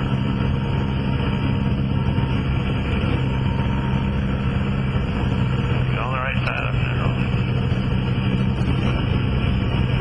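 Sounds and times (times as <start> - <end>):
light aircraft engine and propeller: 0.0 - 10.0.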